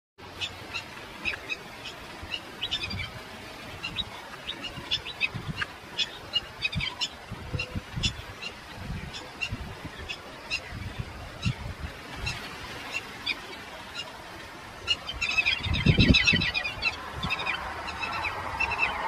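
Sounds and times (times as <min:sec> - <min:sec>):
small birds chirping: 0:00.3 - 0:14.2, 0:14.8 - 0:19.0.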